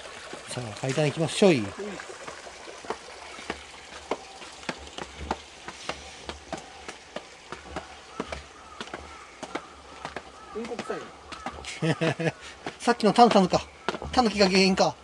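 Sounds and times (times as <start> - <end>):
steady hiss: 1.0 - 15.0
footsteps on stone steps: 2.2 - 15.0.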